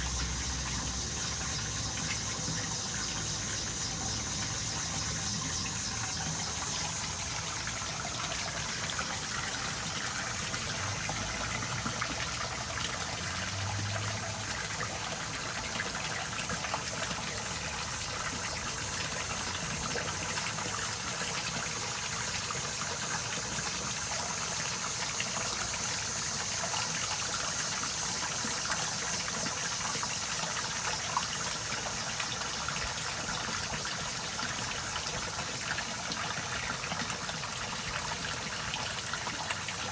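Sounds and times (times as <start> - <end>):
running water in a pond: 0.0 - 39.9.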